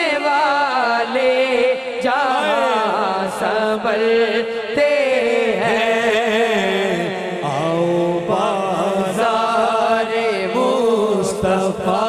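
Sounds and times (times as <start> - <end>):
person singing ornamented phrases: 0.0 - 12.0
low vocal drone: 2.1 - 12.0.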